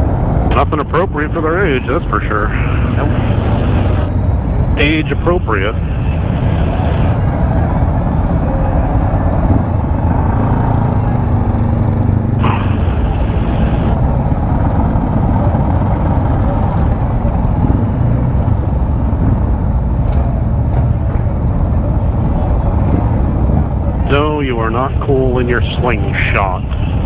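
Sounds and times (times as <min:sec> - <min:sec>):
wind noise on microphone: 0:00.0 - 0:24.6
motorcycle engine drone: 0:00.0 - 0:27.0.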